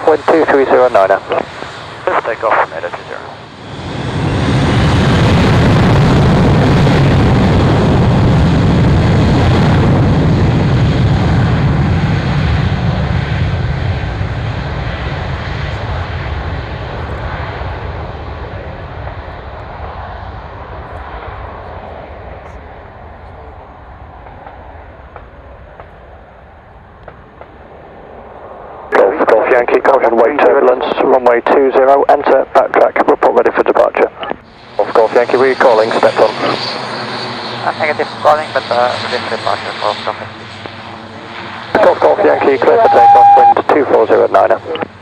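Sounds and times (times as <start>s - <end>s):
aircraft engines rumbling: 0.0s - 45.0s.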